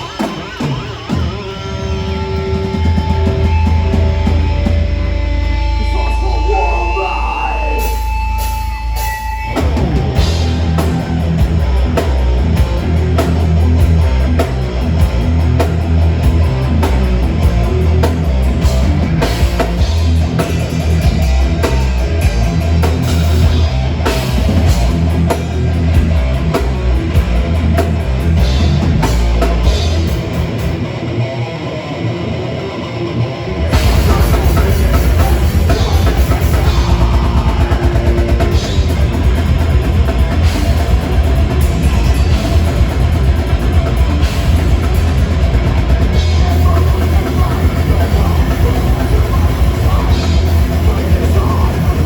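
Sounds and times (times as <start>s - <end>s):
drum kit: 0.0s - 31.1s, 33.7s - 52.0s
bass guitar: 0.0s - 52.0s
distorted electric guitars: 0.0s - 52.0s.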